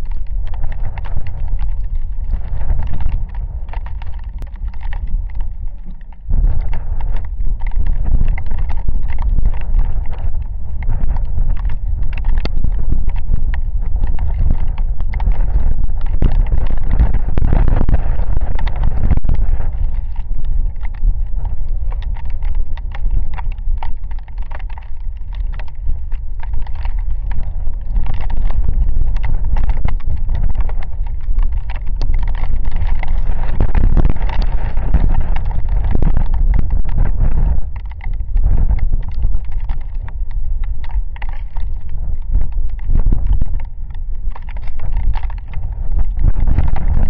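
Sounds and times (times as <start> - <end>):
raindrops ticking on camera: 0.0 - 47.0
wind buffeting microphone: 0.0 - 47.0.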